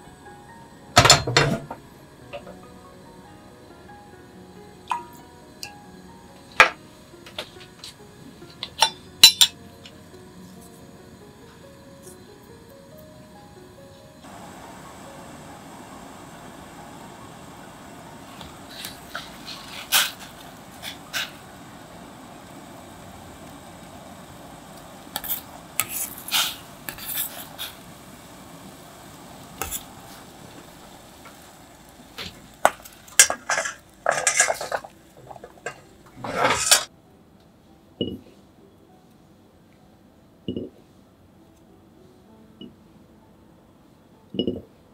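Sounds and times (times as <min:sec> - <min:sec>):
low steady hiss: 0:08.0 - 0:44.9.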